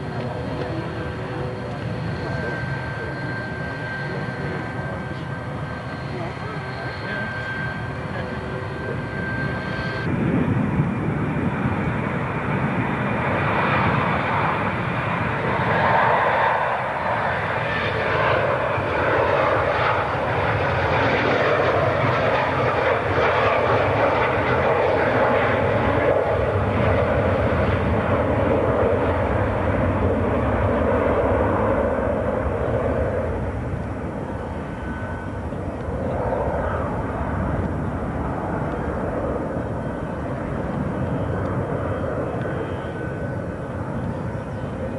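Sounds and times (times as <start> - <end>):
loud rushing jet engine: 0.0 - 43.8
jet engine high whine: 0.0 - 44.9.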